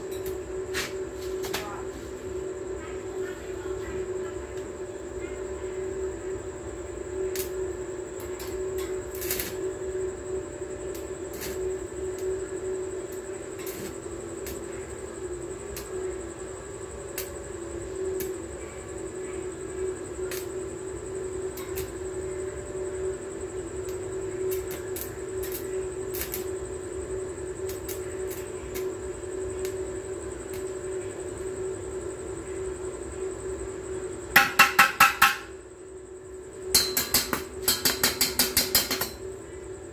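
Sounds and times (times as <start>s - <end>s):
droning hum: 0.0s - 39.9s
high steady whine: 0.0s - 39.9s.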